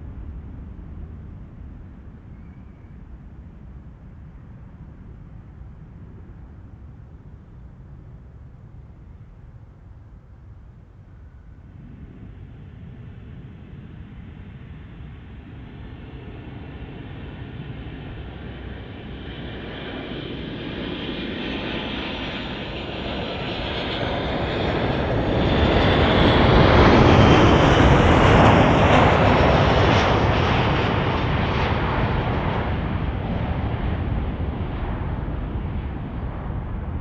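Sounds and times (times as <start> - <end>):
jet engines rumbling: 0.0 - 37.0.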